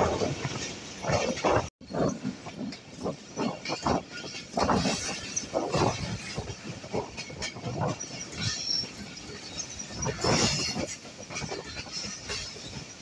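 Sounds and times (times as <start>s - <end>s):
train coaches clattering over rails: 0.0s - 13.0s.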